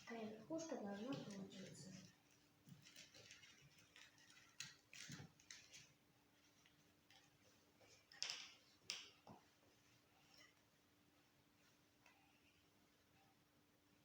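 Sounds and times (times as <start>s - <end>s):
faint taps and rustles: 0.0s - 13.2s.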